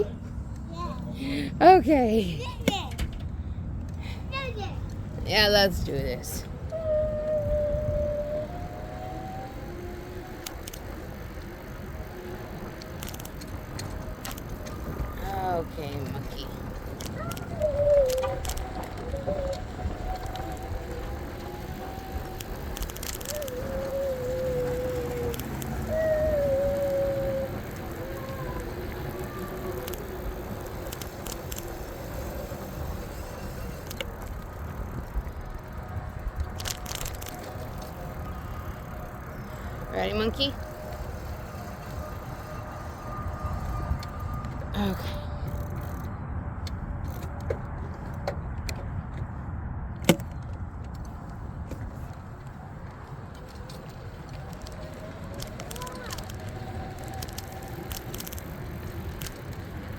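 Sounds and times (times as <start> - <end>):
wind and road rumble: 0.0 - 59.9
faint motor whine: 4.9 - 47.4, 51.2 - 59.9
bike rattling clicks: 6.4 - 49.3, 49.9 - 52.6, 53.2 - 59.9.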